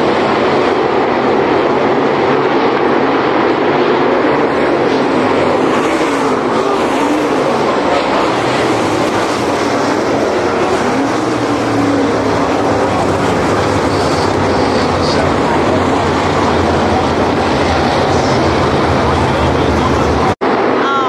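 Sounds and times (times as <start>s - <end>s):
race car engines roaring: 0.0s - 21.0s.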